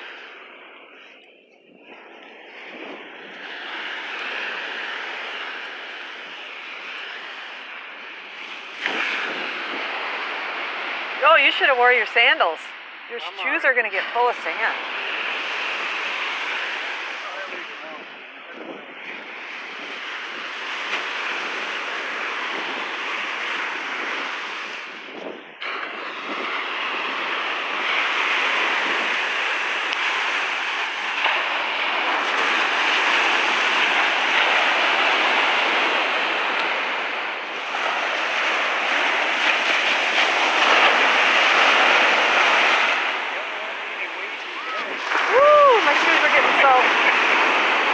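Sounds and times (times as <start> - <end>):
surf breaking on shore: 0.0 - 47.9.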